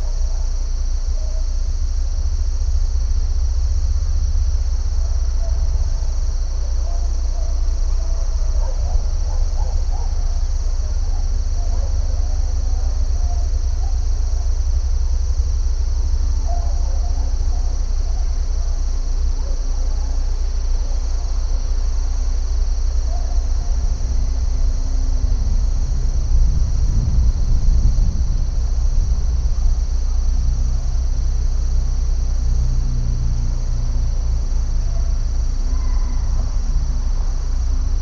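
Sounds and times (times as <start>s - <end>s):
deep continuous rumble: 0.0s - 38.0s
high-pitched insect chorus: 0.0s - 38.0s.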